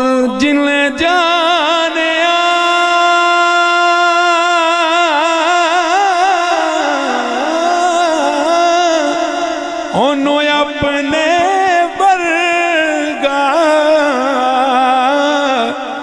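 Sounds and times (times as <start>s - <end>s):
man singing a long wavering note: 0.0s - 16.0s.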